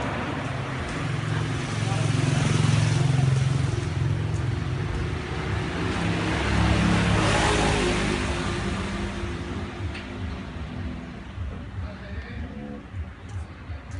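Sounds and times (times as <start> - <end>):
vehicle engine passing: 0.0 - 13.2.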